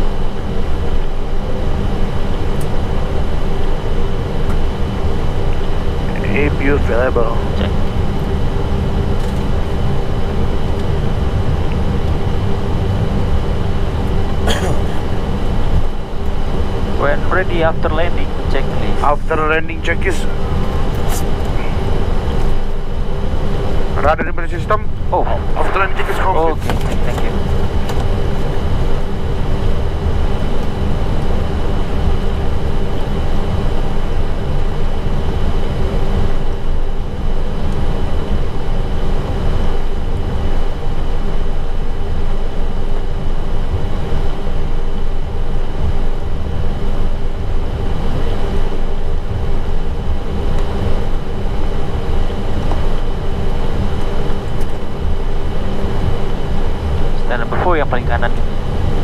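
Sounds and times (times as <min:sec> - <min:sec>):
aircraft cockpit rumble: 0:00.0 - 0:59.0
multi-tone hum: 0:00.0 - 0:59.0.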